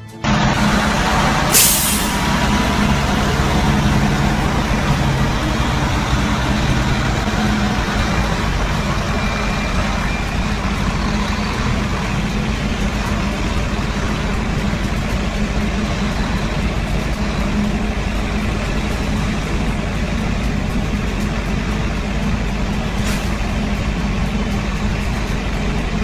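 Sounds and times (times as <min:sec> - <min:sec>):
truck diesel engine drone: 0:00.0 - 0:26.0.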